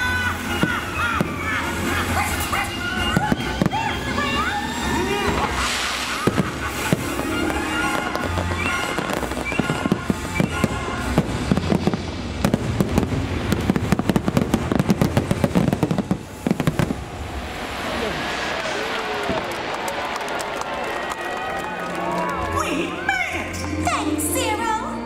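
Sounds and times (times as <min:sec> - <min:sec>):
music soundtrack: 0:00.0 - 0:13.6, 0:16.3 - 0:25.0
fireworks bangs and crackles: 0:00.0 - 0:22.4.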